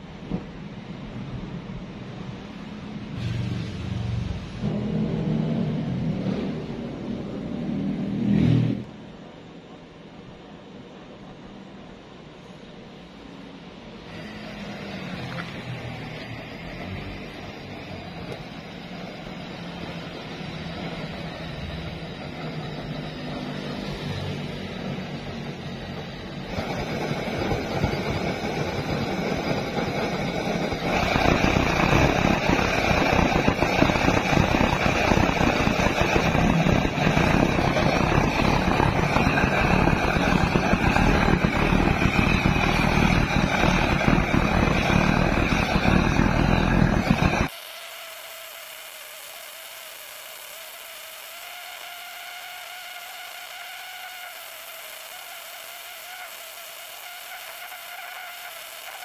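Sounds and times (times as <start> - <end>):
burner flame rushing: 2.3 - 8.9, 14.0 - 59.0
high whine: 2.3 - 59.0.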